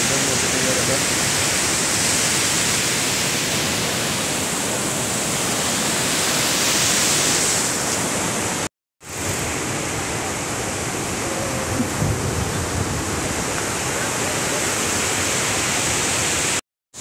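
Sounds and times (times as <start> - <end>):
surf breaking on a beach: 0.0 - 16.6.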